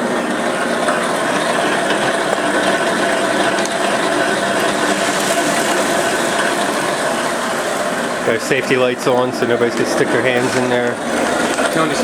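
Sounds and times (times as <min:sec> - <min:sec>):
electric motor running: 0:00.0 - 0:12.0
grain mill grinding: 0:00.0 - 0:12.0.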